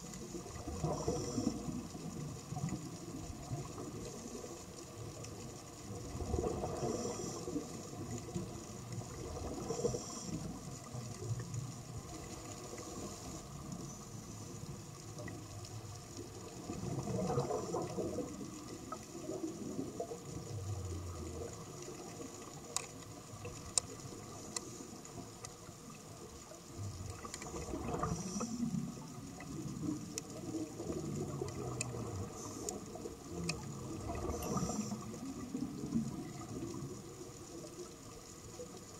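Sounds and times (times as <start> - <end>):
underwater bubbling and gurgling: 0.0 - 38.9.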